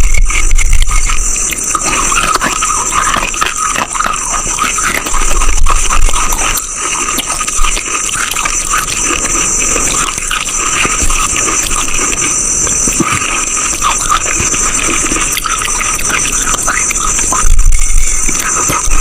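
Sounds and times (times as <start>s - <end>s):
chalk being chewed: 0.0s - 19.0s.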